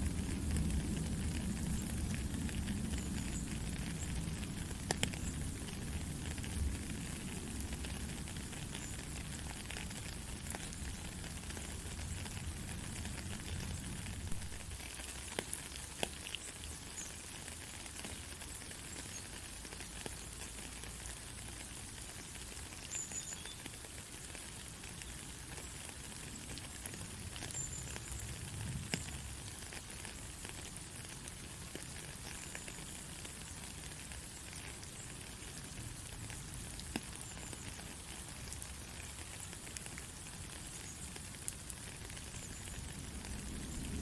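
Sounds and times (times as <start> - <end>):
steady rain pattering: 0.0 - 44.0.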